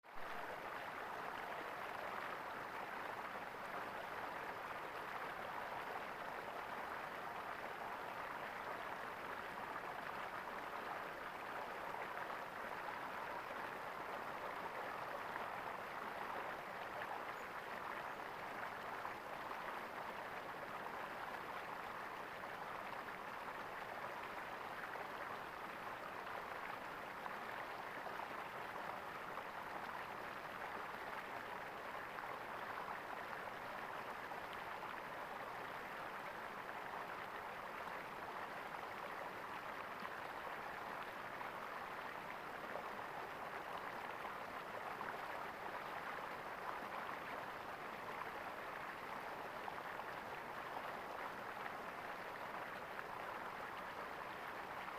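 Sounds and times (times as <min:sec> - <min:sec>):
stream water gurgling: 0:00.0 - 0:54.9.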